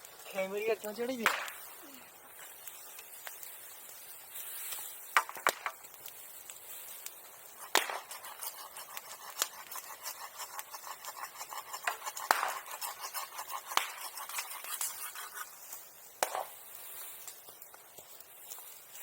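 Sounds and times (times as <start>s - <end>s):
bonfire crackling: 0.0s - 19.0s.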